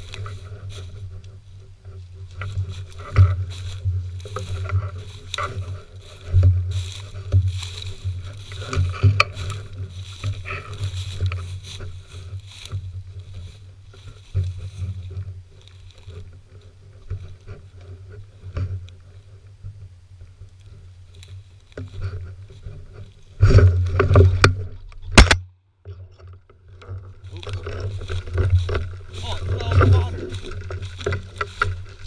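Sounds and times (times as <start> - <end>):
footsteps crunching through dry grass: 0.0 - 24.9, 26.7 - 32.0.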